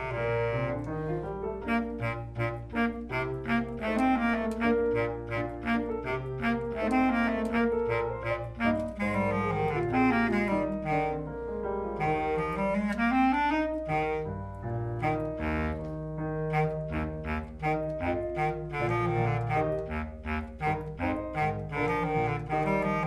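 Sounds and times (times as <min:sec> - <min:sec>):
bass clarinet playing quick notes: 0:00.0 - 0:23.0.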